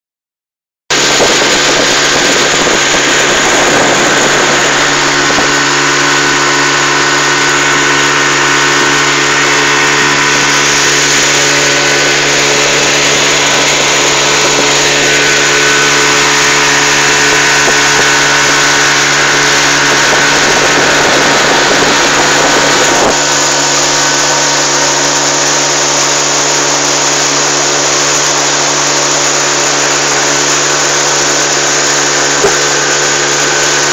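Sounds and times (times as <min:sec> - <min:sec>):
motorboat engine running: 0:00.9 - 0:33.9
water churning past hull: 0:00.9 - 0:33.9.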